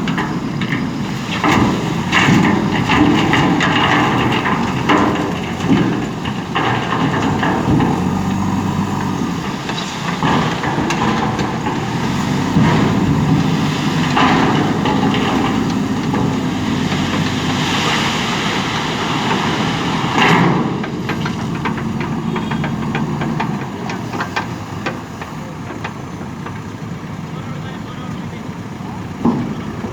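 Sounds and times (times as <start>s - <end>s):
machine clanking: 0.0s - 26.8s
diesel engine running: 0.0s - 29.9s.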